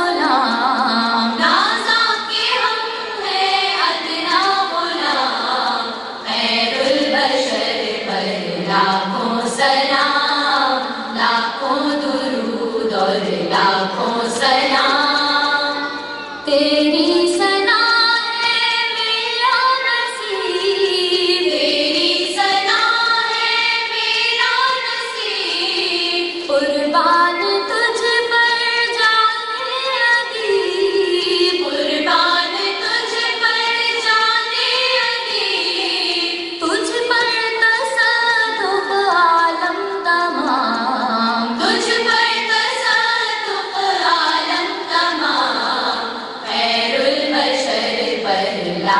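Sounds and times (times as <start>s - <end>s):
woman singing devotional song: 0.0s - 48.9s.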